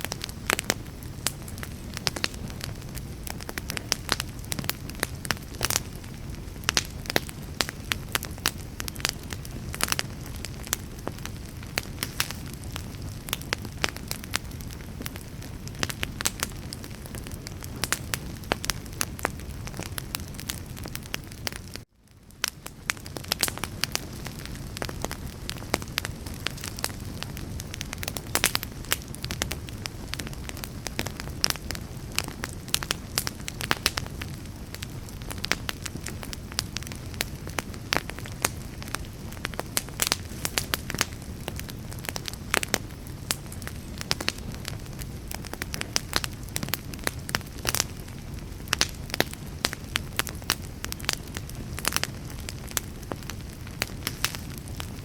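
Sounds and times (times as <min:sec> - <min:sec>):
burning wood crackling: 0:00.0 - 0:55.0
low rumble of flames: 0:00.0 - 0:55.0.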